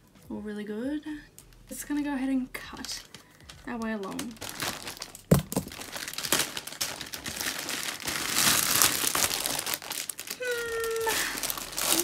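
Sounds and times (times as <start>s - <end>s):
plastic packaging crinkling: 1.4s - 12.0s.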